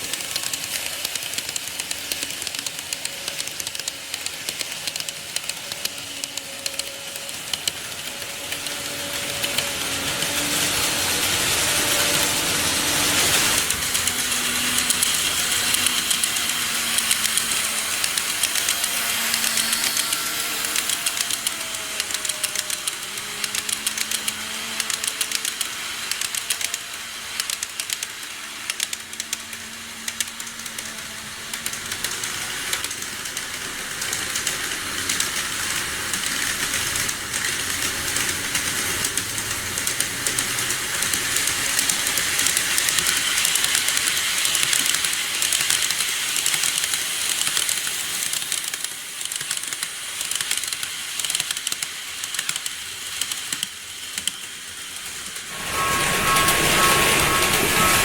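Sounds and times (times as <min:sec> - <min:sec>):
faint motor whine: 0:00.0 - 0:49.3, 0:53.2 - 0:58.0
model train wheels clicking: 0:00.0 - 0:58.0.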